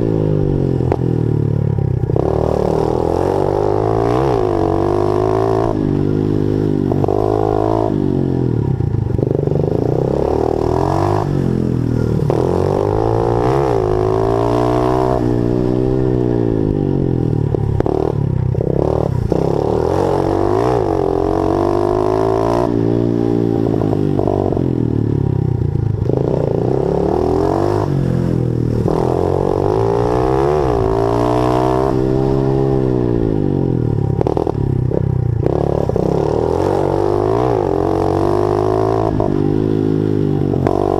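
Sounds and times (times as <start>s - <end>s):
pit bike engine revving: 0.0s - 40.9s.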